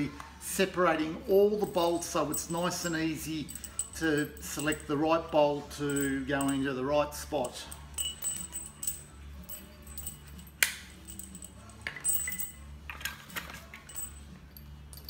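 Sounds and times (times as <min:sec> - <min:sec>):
metal bolts clinking: 0:00.9 - 0:15.0.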